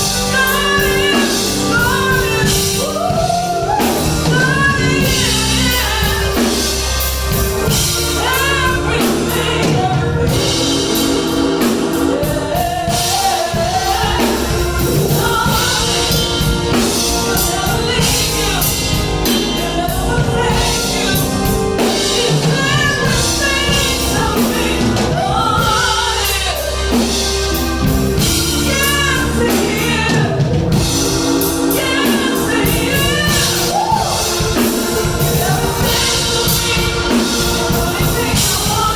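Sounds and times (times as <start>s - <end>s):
bass keyboard and drums: 0.0s - 38.9s
gospel song vocals: 0.0s - 38.9s.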